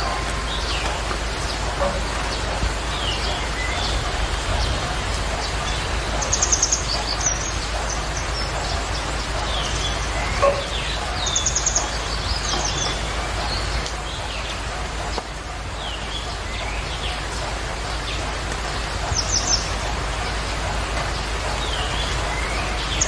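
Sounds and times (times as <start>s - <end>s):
small birds chirping: 0.0s - 23.0s
steady background hiss: 0.0s - 23.0s.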